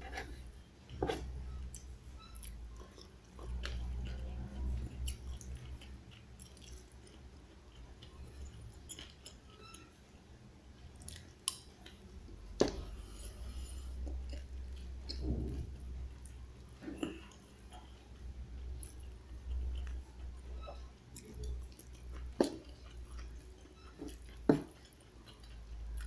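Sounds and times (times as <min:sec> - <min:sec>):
person chewing: 0:00.0 - 0:09.9, 0:10.8 - 0:26.0.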